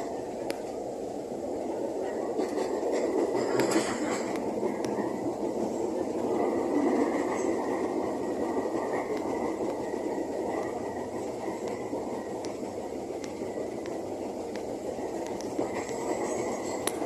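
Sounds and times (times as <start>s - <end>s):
electric train running: 0.0s - 17.0s.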